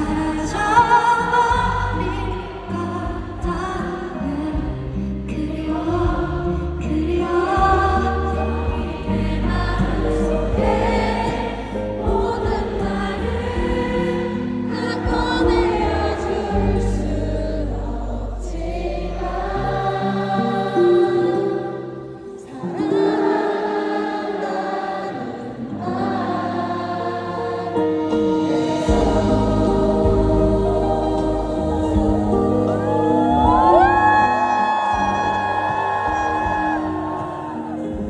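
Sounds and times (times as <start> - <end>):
crowd singing a ballad: 0.0 - 38.0
song accompaniment: 0.0 - 38.0.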